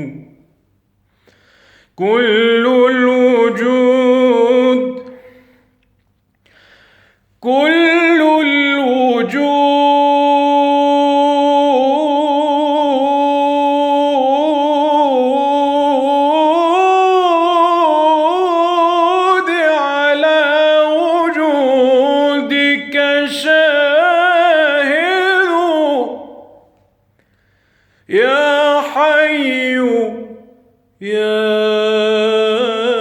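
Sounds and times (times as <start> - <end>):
man chanting unaccompanied: 0.0 - 0.5, 2.0 - 5.2, 7.4 - 26.8, 28.1 - 33.0.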